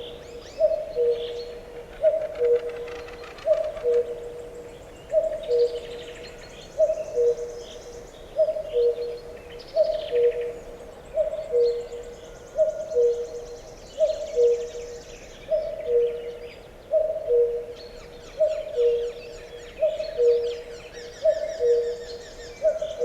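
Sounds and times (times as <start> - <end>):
small birds chirping faintly: 0.0 - 23.0.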